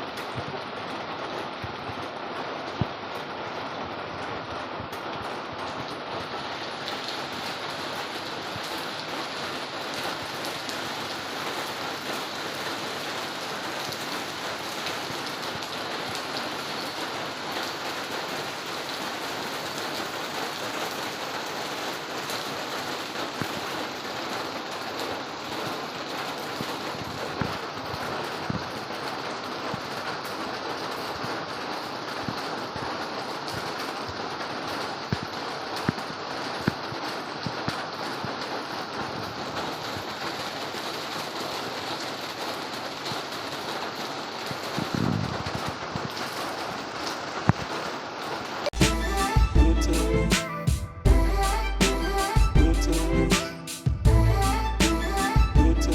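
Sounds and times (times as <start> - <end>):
steady rain hiss: 0.0 - 50.5, 51.2 - 55.9.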